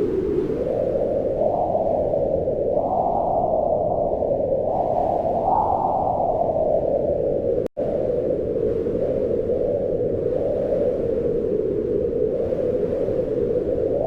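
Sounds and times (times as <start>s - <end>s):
wind blowing in gusts: 0.0s - 14.0s.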